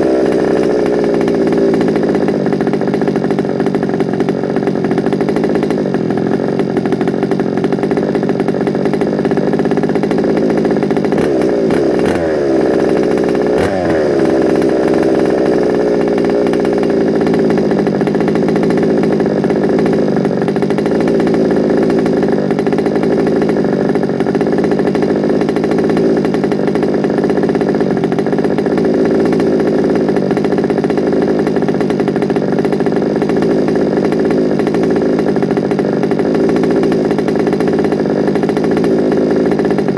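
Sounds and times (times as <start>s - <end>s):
small two-stroke engine running: 0.0s - 39.9s.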